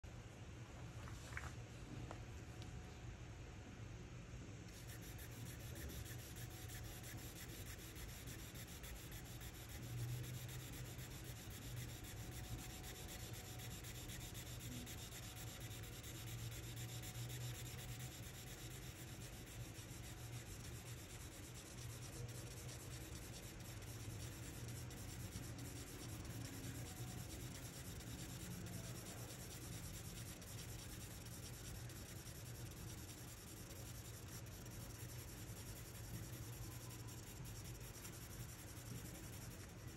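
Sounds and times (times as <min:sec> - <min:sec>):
charcoal scratching on paper: 0:04.7 - 0:39.9.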